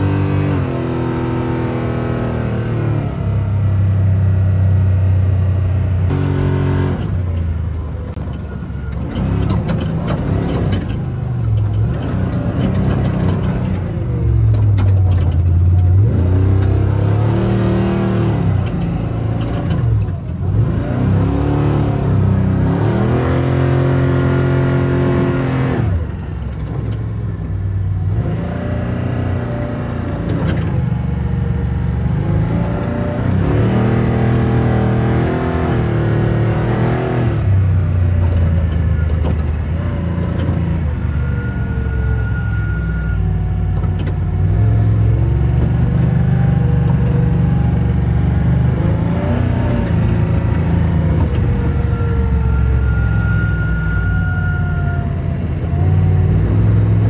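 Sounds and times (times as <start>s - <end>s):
truck engine accelerating: 0.0s - 57.0s.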